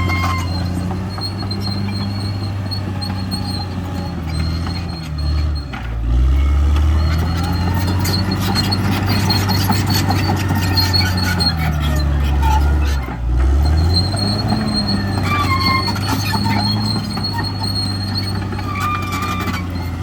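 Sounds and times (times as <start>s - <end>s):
bulldozer diesel engine running: 0.0s - 20.0s
crawler tracks clanking and squealing: 0.0s - 20.0s.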